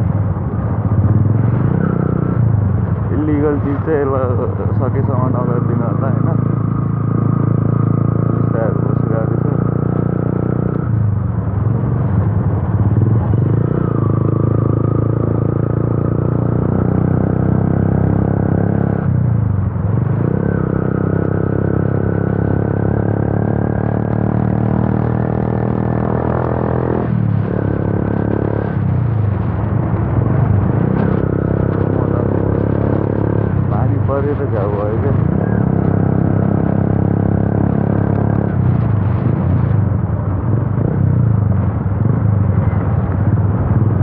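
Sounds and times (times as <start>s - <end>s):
motorcycle engine running loud: 0.0s - 44.0s.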